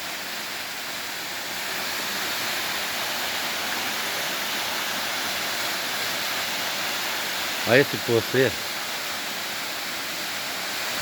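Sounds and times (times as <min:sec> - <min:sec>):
waterfall pouring: 0:00.0 - 0:11.0.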